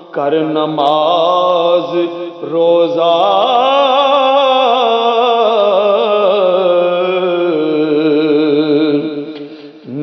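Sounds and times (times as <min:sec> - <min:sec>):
man singing devotional song: 0:00.0 - 0:10.0.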